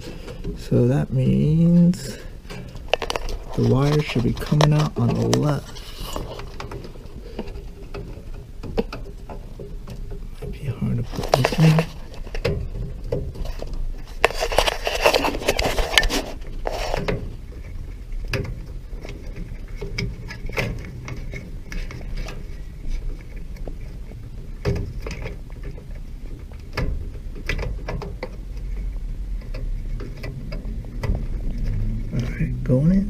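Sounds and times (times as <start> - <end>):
rustling and scraping: 0.0 - 33.0.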